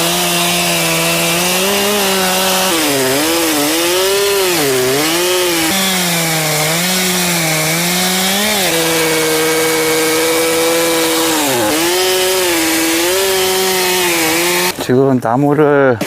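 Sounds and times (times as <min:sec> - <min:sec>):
chainsaw cutting log: 0:00.0 - 0:14.9.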